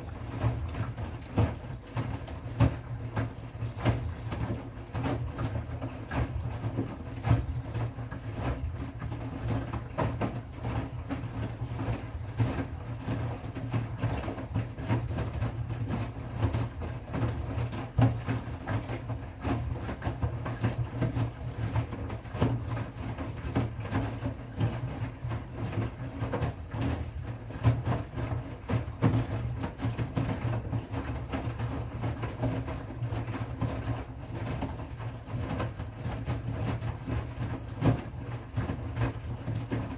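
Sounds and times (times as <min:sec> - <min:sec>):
laundry tumbling and water sloshing: 0:00.0 - 0:39.9
washing machine motor hum: 0:00.0 - 0:39.9.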